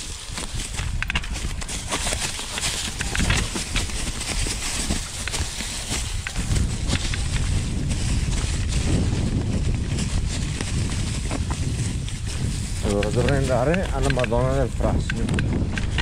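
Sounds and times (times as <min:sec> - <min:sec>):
bike rattling and knocking: 0:00.0 - 0:16.0
tyres crunching over stones: 0:00.0 - 0:16.0.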